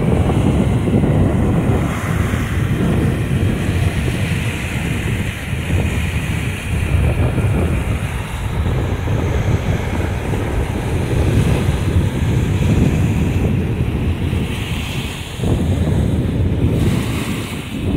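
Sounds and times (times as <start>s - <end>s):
surf washing over stones: 0.0s - 17.9s
wind rumble on microphone: 0.0s - 17.9s.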